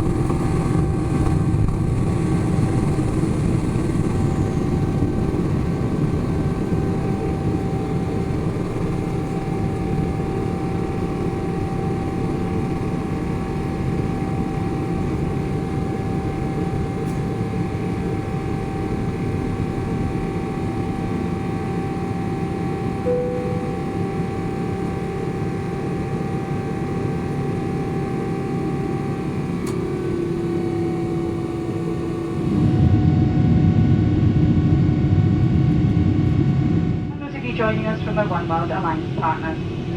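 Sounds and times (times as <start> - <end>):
jet engine rumble and whine: 0.0 - 39.9.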